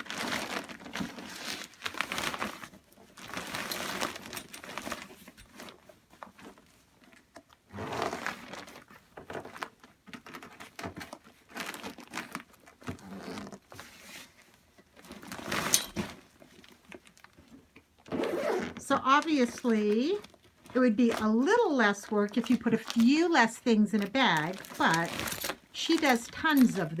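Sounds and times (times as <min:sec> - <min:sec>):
bag and clothes rustling: 0:00.0 - 0:06.8, 0:07.7 - 0:27.0.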